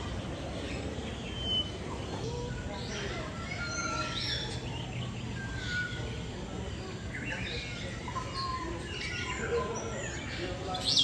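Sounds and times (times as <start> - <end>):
birds chirping and calling: 0.0 - 11.0
steady low background noise: 0.0 - 11.0.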